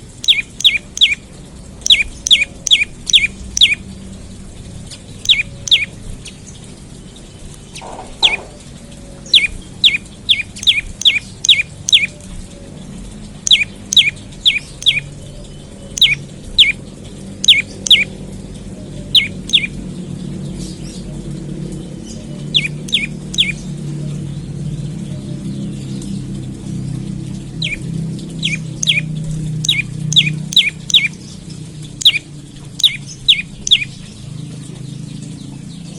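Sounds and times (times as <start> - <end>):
songbird calling: 0.0 - 35.9.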